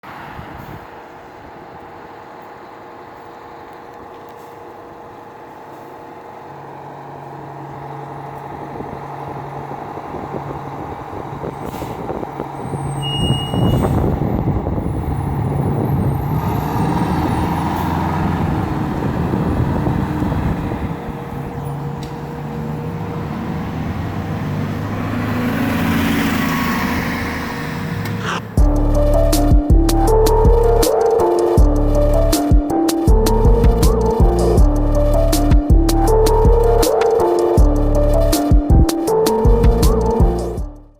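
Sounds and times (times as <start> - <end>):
truck diesel engine passing: 0.0 - 40.9.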